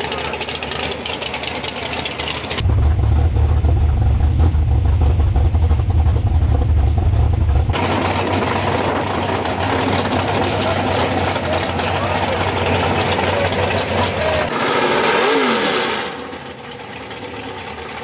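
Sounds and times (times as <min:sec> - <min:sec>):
race car engines idling: 0:00.0 - 0:15.1, 0:15.8 - 0:18.0.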